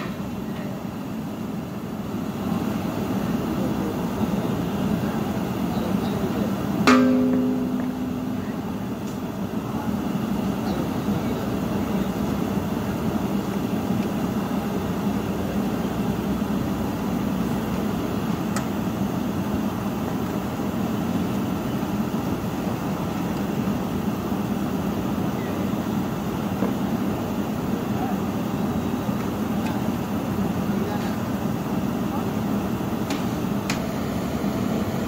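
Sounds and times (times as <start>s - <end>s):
gas burners roaring: 0.0s - 35.0s.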